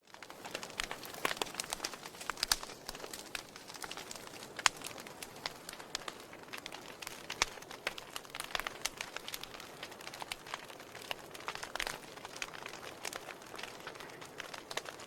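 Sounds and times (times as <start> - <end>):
soft hiss of fire: 0.0 - 15.0
wood fire crackling and popping: 0.0 - 15.0.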